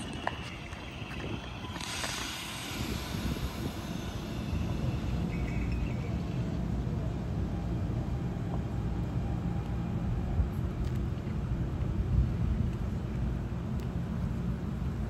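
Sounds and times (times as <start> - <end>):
low rumble of standing train: 0.0 - 15.0.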